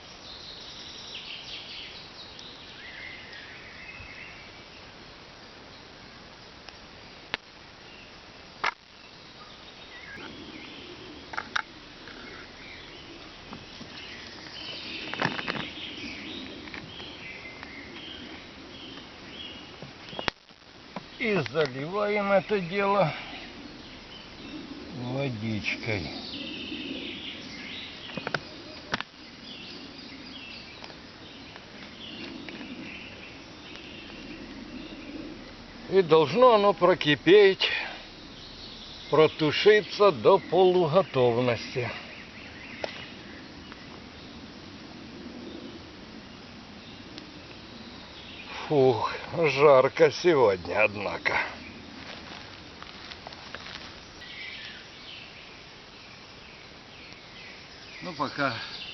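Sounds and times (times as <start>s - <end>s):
bird calling: 0.0s - 5.0s, 7.2s - 58.9s
outdoor background noise: 0.0s - 58.9s.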